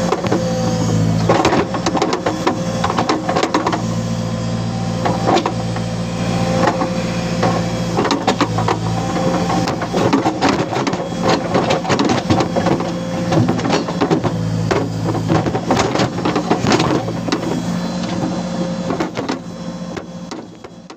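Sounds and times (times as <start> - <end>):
diesel engine running under load: 0.0 - 20.9.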